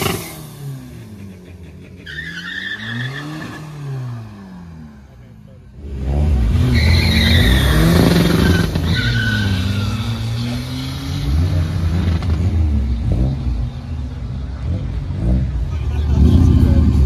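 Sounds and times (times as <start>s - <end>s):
drag car engines revving: 0.0s - 17.0s.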